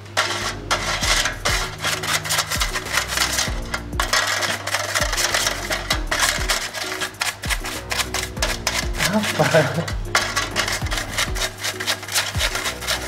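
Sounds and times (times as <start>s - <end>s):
stiff brush scrubbing: 0.0s - 13.0s
music with a beat: 0.1s - 13.0s.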